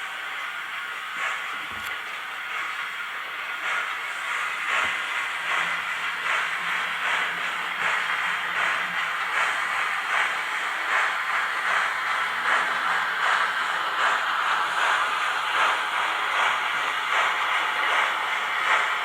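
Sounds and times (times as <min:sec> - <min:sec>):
hissy steam chuffs from speaker: 0:00.0 - 0:19.0.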